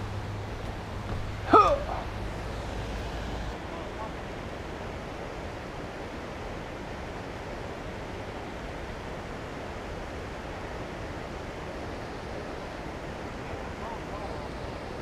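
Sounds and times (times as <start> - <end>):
water rushing through spillway: 0.0 - 15.0.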